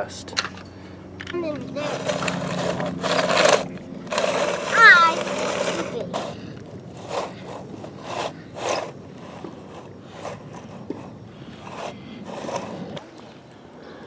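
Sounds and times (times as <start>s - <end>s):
scraping in loose dirt: 1.3s - 13.6s.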